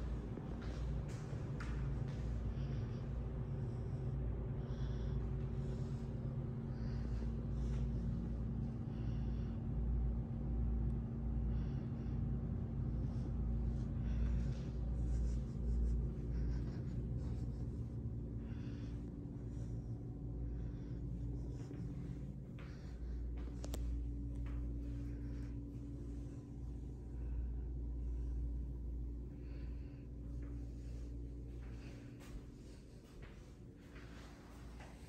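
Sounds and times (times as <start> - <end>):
faint steady hum: 0.0 - 35.0
low rumble: 0.0 - 35.0.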